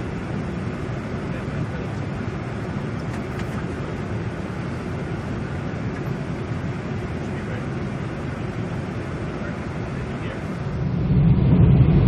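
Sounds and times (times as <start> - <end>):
air and aircraft engines rushing: 0.0 - 12.0.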